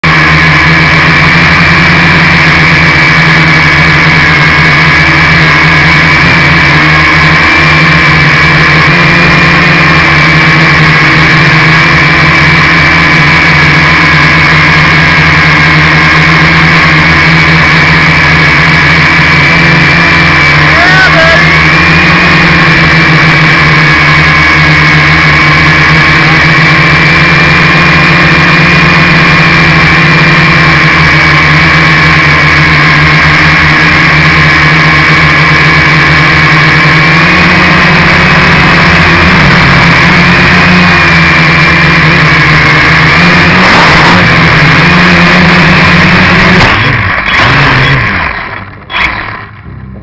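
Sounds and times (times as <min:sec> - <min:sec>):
drone motors buzzing: 0:00.0 - 0:50.0.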